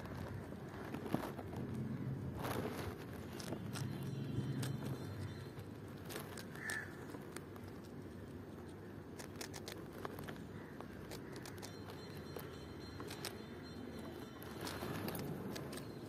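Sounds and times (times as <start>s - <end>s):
squirrel crunching biscuit: 0.0s - 16.0s.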